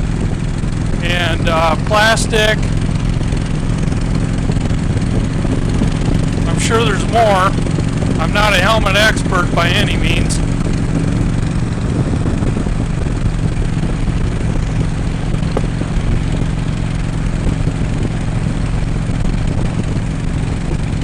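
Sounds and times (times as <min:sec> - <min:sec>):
motorcycle engine cruising: 0:00.0 - 0:21.0
road and wind noise: 0:00.0 - 0:21.0.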